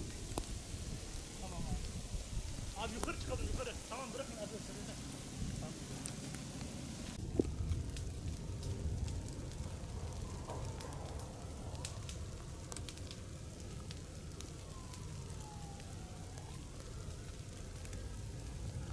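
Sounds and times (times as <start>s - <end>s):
fire crackling and popping: 0.0s - 18.9s
fire rumble and hiss: 0.0s - 18.9s.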